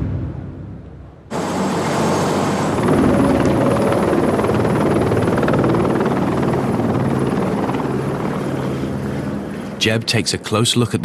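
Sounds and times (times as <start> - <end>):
helicopter flying away: 0.0 - 11.0.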